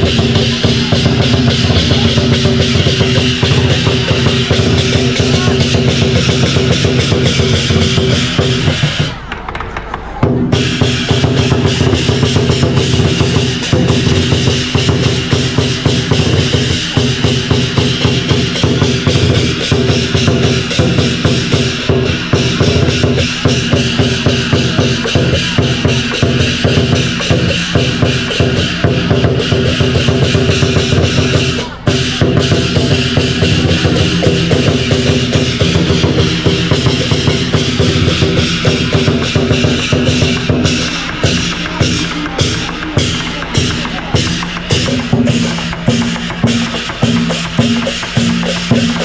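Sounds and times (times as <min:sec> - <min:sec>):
barrel drums beaten fast: 0:00.0 - 0:49.0.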